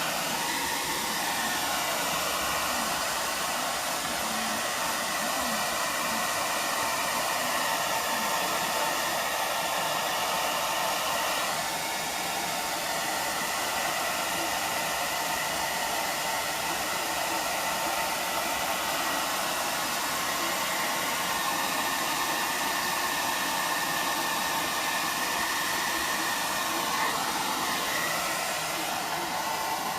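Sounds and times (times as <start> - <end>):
hair dryer running: 0.0 - 29.9.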